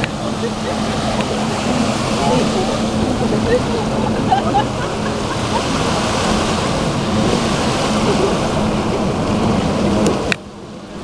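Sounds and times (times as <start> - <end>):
low hum of boat engines: 0.0 - 11.0
small waves washing on sand: 0.0 - 11.0
wind on microphone: 0.0 - 11.0.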